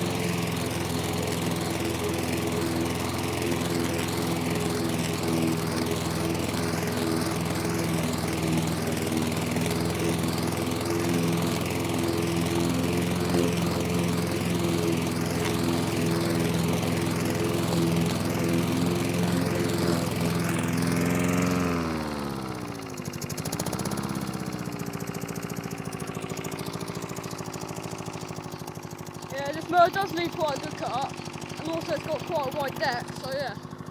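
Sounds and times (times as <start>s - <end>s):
push mower engine running: 0.0s - 33.9s.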